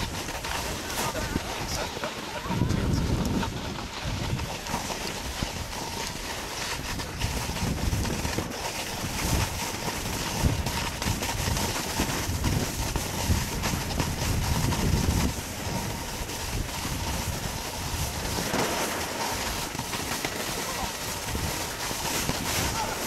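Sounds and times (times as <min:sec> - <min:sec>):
snowboard scraping over snow: 0:00.0 - 0:23.0
wind buffeting microphone: 0:00.0 - 0:23.0.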